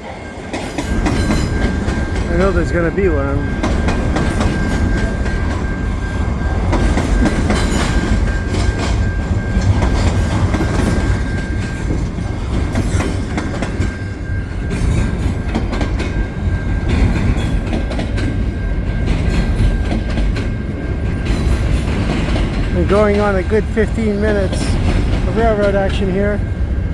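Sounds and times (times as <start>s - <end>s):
train wheels clicking on rails: 0.0s - 26.9s.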